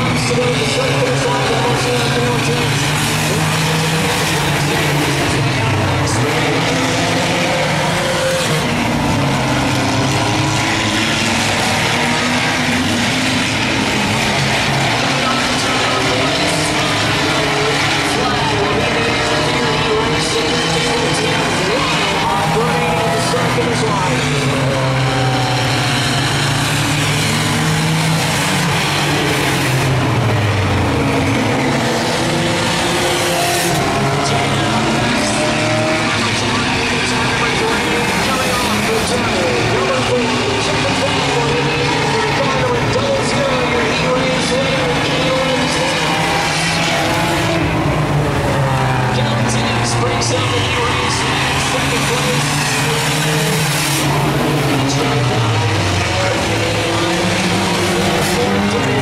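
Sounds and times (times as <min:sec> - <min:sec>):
race car engines running: 0:00.0 - 0:59.0.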